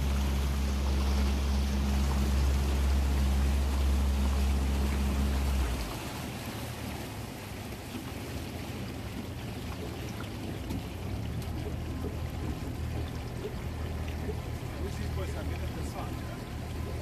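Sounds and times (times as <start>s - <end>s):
boat engine running low: 0.0s - 17.0s
water lapping against hull: 0.0s - 17.0s.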